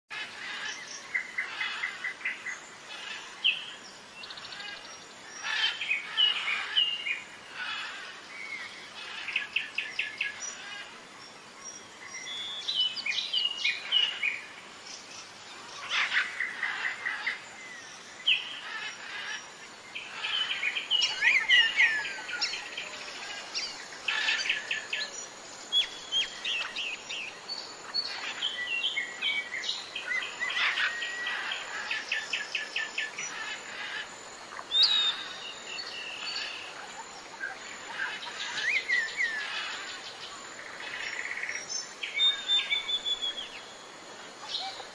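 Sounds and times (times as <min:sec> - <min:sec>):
birds chirping and trilling: 0:00.1 - 0:44.9
faint steady hiss: 0:00.1 - 0:44.9.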